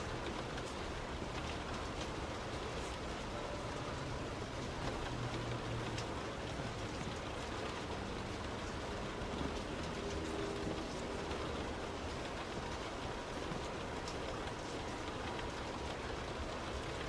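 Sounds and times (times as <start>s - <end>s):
heavy rain on a car: 0.0s - 17.0s.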